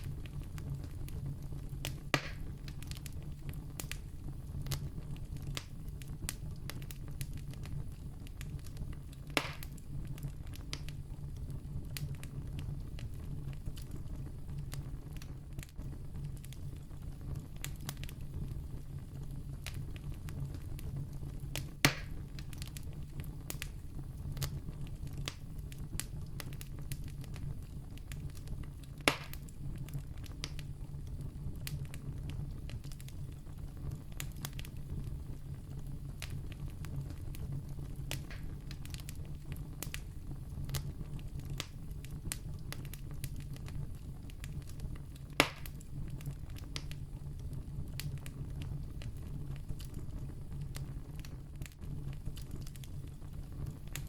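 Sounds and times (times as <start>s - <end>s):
campfire crackling: 0.0s - 54.0s
loud fire pops: 0.0s - 54.0s.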